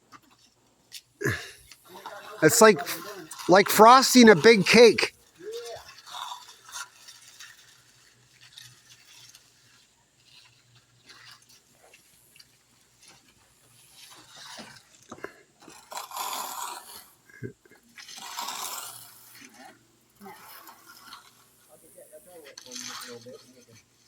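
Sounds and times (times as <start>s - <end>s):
trowels scraping wet concrete: 0.9s - 17.2s, 17.8s - 24.0s.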